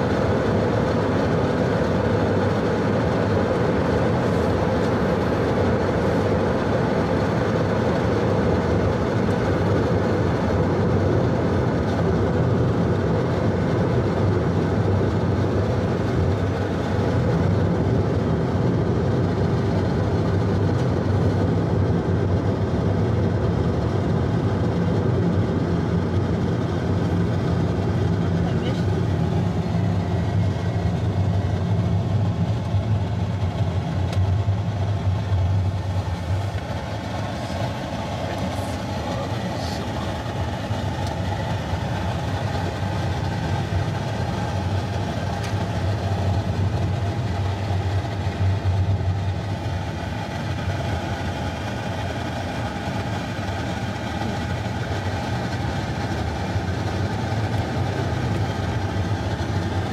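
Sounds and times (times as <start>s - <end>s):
car engine hum: 0.0s - 59.9s.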